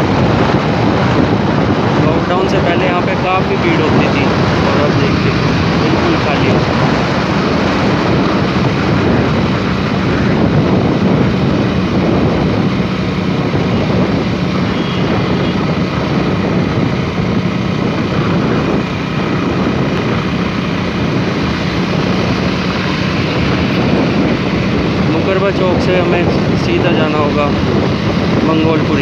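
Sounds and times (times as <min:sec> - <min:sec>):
vehicle engine and road noise: 0:00.0 - 0:29.0.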